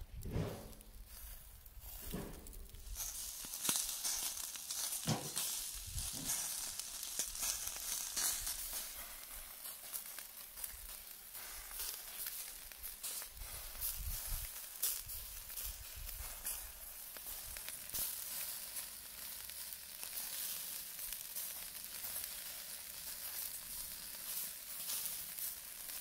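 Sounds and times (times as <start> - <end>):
fire crackling: 0.0 - 26.0
meat sizzling on grill: 0.3 - 26.0.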